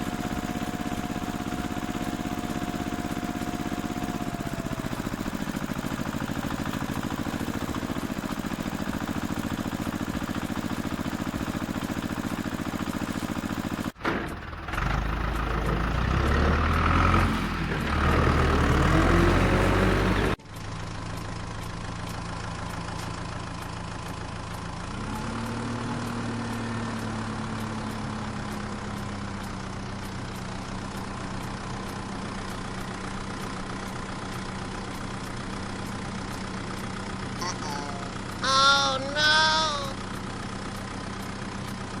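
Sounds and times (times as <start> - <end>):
tractor engine idling: 0.0 - 25.0, 26.8 - 42.0.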